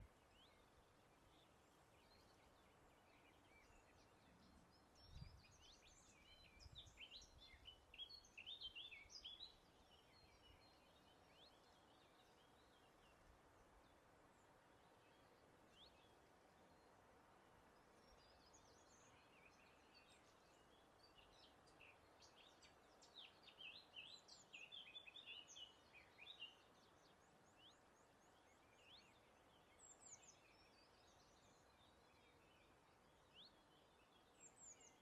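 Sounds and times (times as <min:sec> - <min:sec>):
faint outdoor air hiss: 0:00.0 - 0:35.0.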